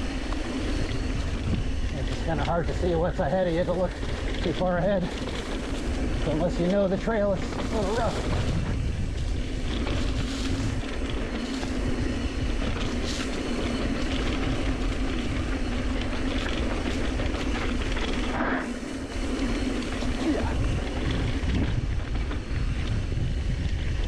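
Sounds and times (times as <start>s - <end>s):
bike rattling and clattering: 0.0s - 24.0s
steady low hum: 0.0s - 24.0s
tyres rumbling over dirt: 0.0s - 24.0s.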